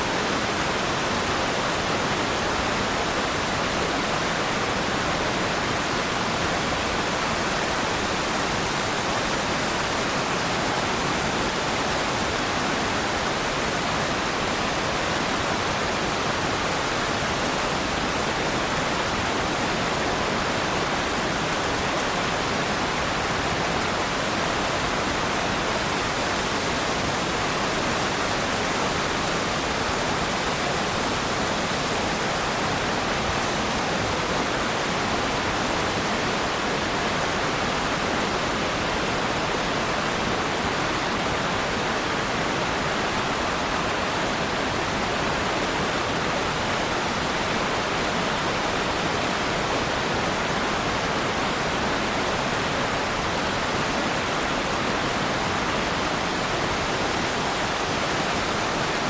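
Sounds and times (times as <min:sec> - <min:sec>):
waterfall pouring and splashing: 0:00.0 - 0:59.0.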